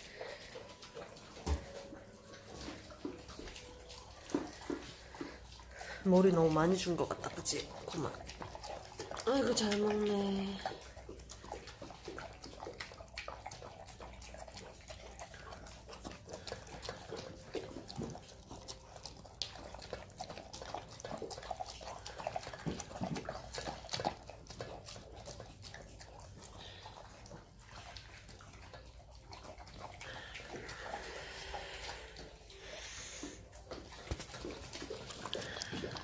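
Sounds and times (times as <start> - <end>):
dog chewing and lapping: 0.0 - 36.0.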